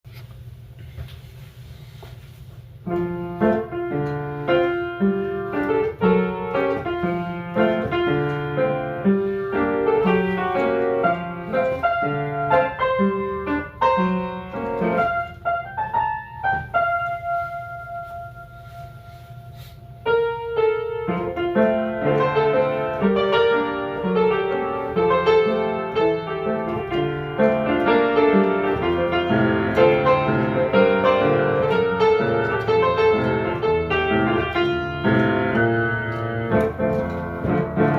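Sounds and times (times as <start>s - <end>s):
piano playing: 2.8s - 37.9s.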